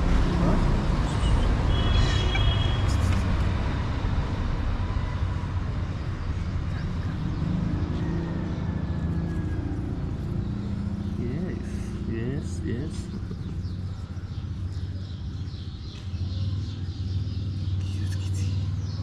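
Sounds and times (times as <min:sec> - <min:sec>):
street noise rumble: 0:00.0 - 0:19.0.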